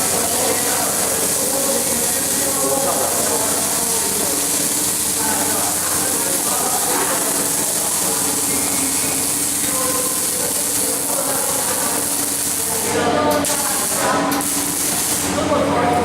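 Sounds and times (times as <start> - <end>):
welding arc crackling hiss: 0.0 - 15.5.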